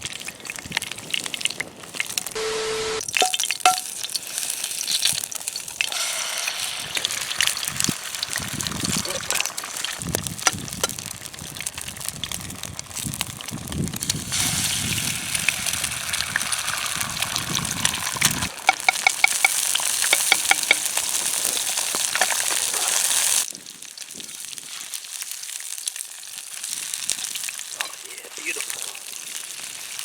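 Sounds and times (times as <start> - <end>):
bacon sizzling in a pan: 0.0 - 2.4, 3.0 - 30.0
grease popping: 3.0 - 30.0.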